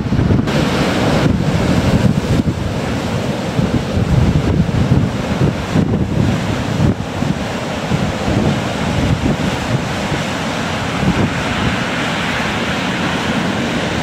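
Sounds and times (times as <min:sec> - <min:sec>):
surf breaking on shingle beach: 0:00.0 - 0:14.0
wind gusting over microphone: 0:00.0 - 0:14.0.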